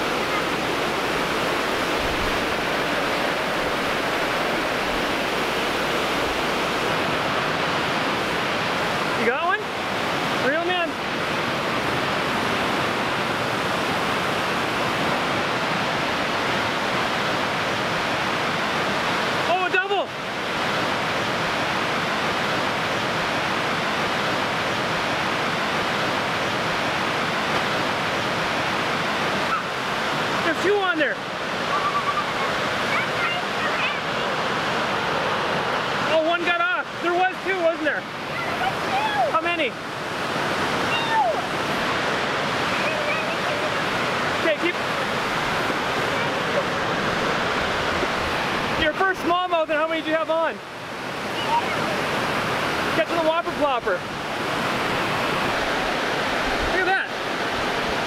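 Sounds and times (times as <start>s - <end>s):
river current over rocks: 0.0s - 58.0s
water rushing over dam spillway: 0.0s - 58.0s.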